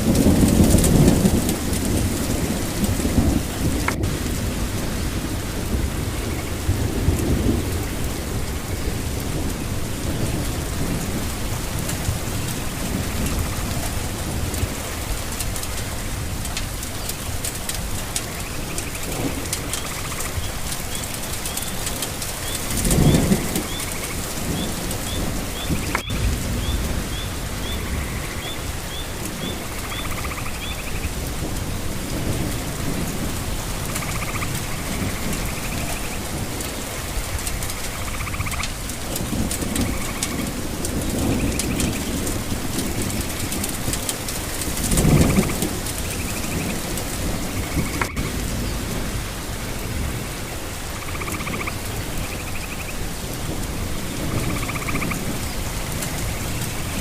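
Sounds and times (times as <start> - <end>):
rain falling: 0.0 - 57.0
thunder rumbles: 0.0 - 57.0.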